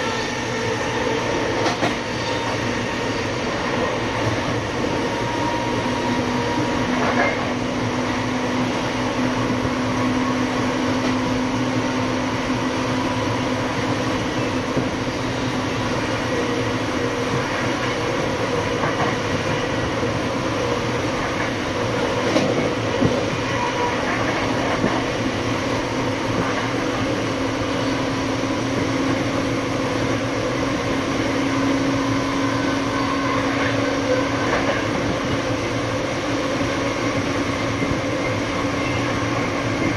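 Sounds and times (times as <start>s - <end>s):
locomotive engine drone: 0.0s - 39.9s
rail noise: 0.0s - 39.9s.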